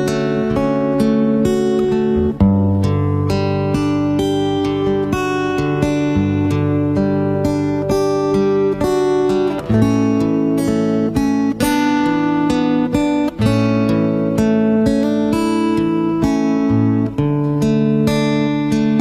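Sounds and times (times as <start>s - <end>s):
acoustic guitar playing chords: 0.0s - 19.0s.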